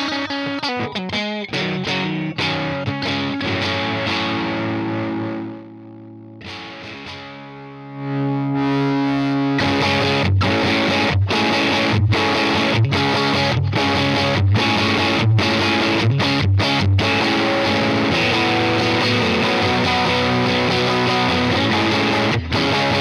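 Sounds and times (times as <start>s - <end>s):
fuzzy synth-like electric guitar: 0.0s - 23.0s.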